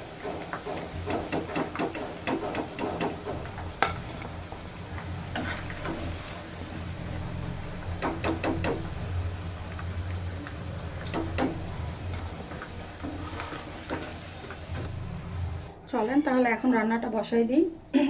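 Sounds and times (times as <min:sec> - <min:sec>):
chicken sizzling in oil: 0:00.0 - 0:15.7.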